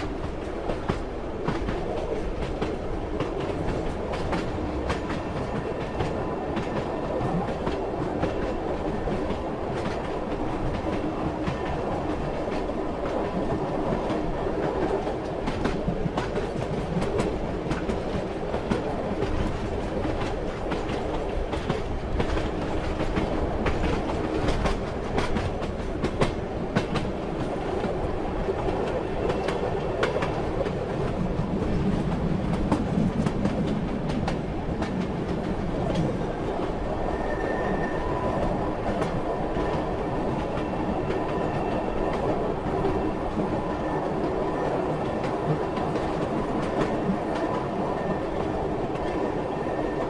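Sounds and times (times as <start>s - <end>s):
train rumbling: 0.0s - 50.0s
train wheels clacking on rails: 0.0s - 50.0s.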